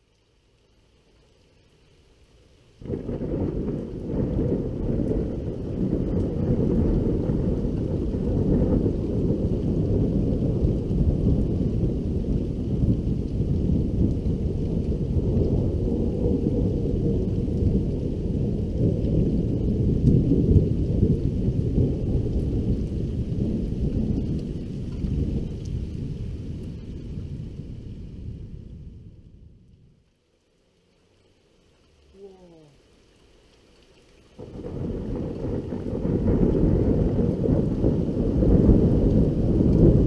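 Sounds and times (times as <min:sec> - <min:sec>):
rolling thunder: 0:02.8 - 0:30.0, 0:34.4 - 0:40.0.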